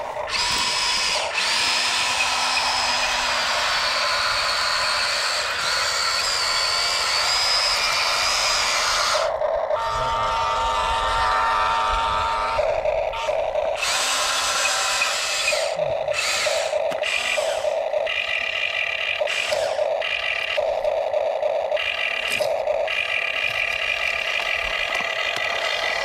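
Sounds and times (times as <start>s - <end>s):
small electric motors whining: 0.0s - 26.0s.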